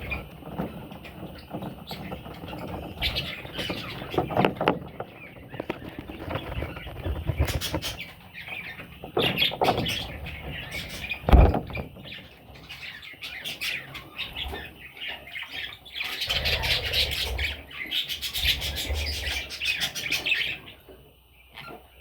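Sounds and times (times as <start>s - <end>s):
budgerigars chattering and squawking: 0.0s - 22.0s.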